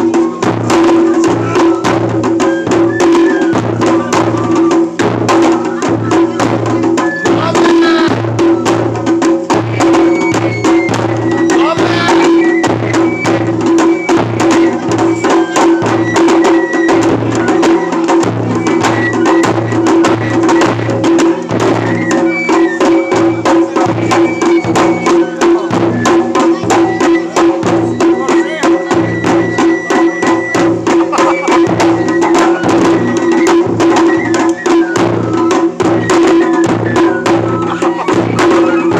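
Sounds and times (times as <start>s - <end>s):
drums beating fast rhythm: 0.0s - 38.9s.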